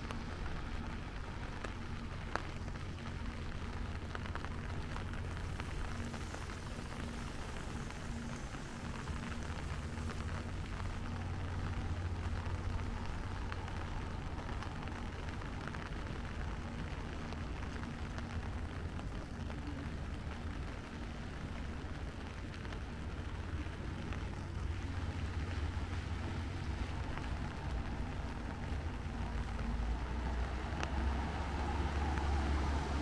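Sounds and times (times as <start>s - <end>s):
low rumble with faint hum: 0.0s - 33.0s
steady rain hiss: 0.0s - 33.0s.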